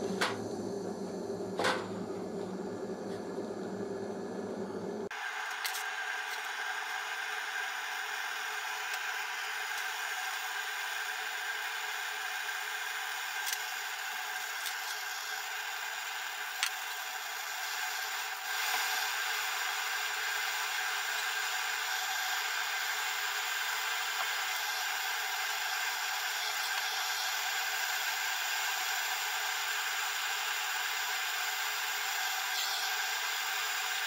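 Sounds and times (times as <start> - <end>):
gas torch hissing: 0.0 - 34.0.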